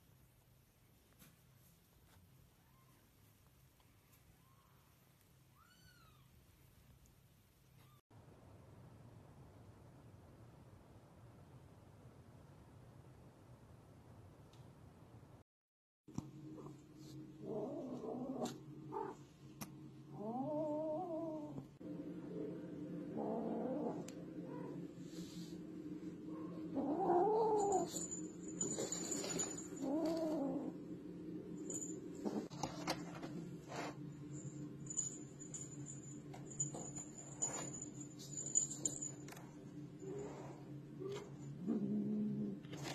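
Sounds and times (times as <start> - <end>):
faint low hum with high whine: 0.0 - 15.4, 16.1 - 42.9.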